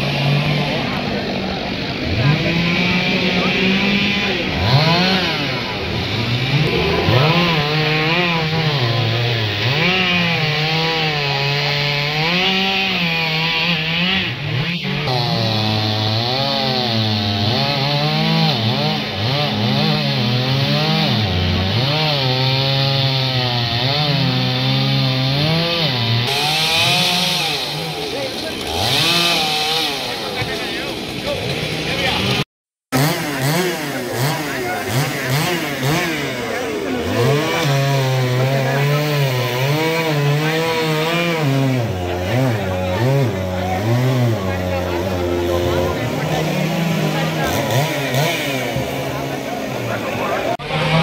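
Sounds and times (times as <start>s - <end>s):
chainsaw cutting wood: 0.0s - 51.0s.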